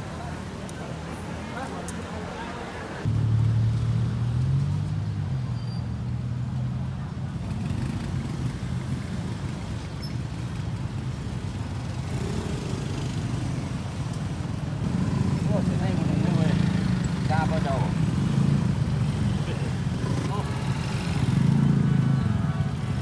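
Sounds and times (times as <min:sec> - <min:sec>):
street traffic: 0:00.0 - 0:23.0.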